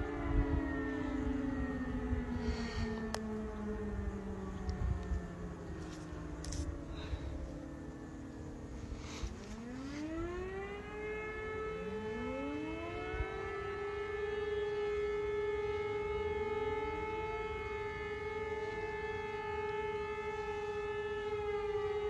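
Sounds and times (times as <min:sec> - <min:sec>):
civil defence sirens wailing: 0:00.0 - 0:22.0.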